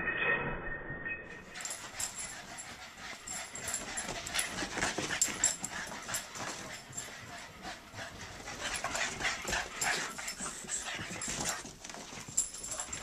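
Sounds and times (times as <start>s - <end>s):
dog noises: 1.6s - 13.0s.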